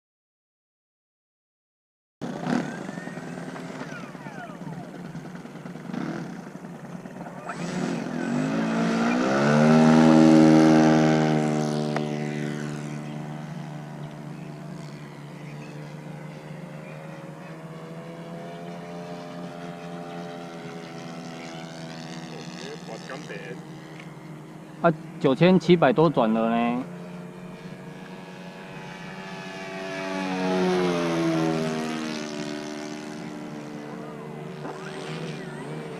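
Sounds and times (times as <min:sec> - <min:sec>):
model plane engine and propeller: 0:02.2 - 0:35.9.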